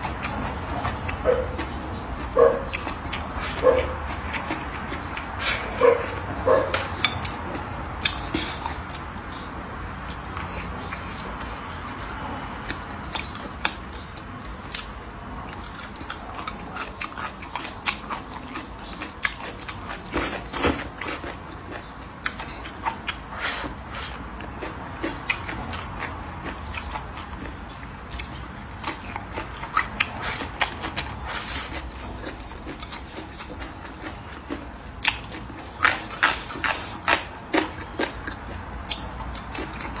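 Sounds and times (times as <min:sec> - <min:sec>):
chewing and crunching food: 0:00.0 - 0:40.0.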